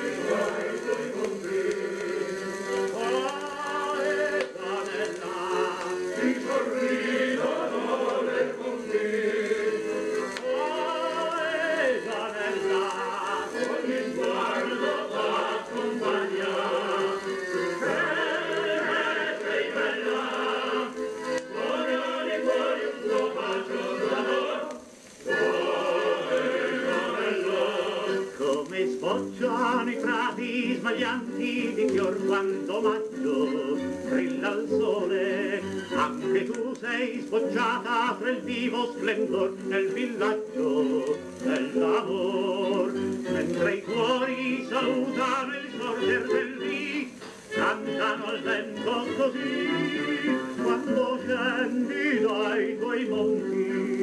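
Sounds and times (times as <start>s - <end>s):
choir-like voices: 0.0s - 54.0s
popular music from a record: 0.0s - 54.0s.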